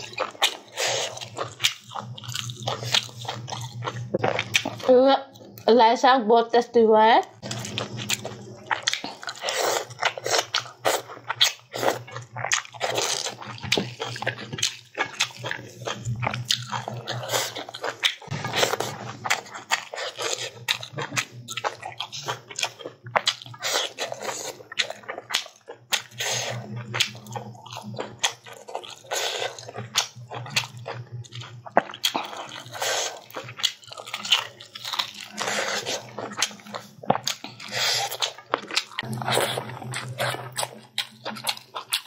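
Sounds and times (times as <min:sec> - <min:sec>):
wet chewing and lip smacking: 0:00.0 - 0:05.6, 0:07.4 - 0:42.0.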